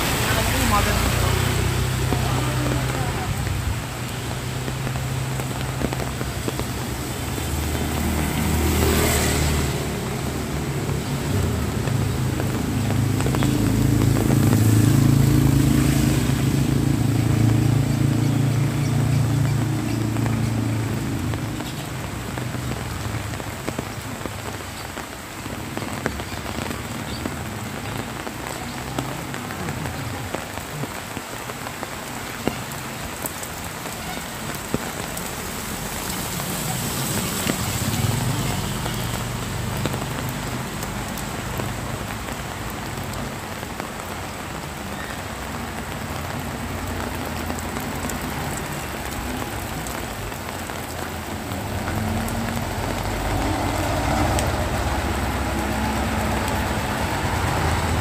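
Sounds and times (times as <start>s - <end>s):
drips: 0.0s - 58.0s
light rain pattering on pavement: 0.0s - 58.0s
motor tricycle passing on wet road: 0.0s - 58.0s.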